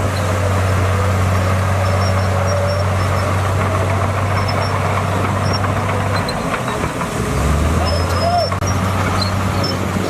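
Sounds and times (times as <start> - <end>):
heavy diesel engine running: 0.0 - 10.0.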